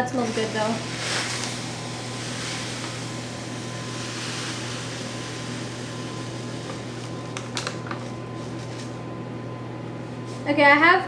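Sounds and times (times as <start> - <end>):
low hum: 0.0 - 10.3
sugar pouring into plastic cup: 0.2 - 9.0.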